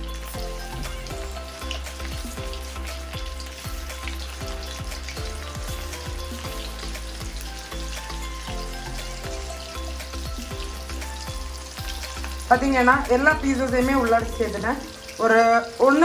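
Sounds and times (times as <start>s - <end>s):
background music with steady beat: 0.0s - 16.0s
oil sizzling and bubbling: 0.0s - 16.0s.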